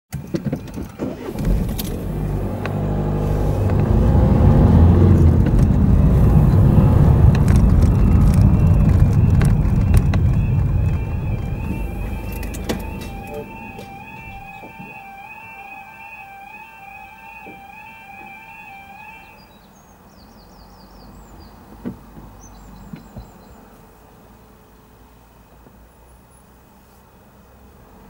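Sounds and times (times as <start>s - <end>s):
car engine and tyre rumble: 0.2s - 28.0s.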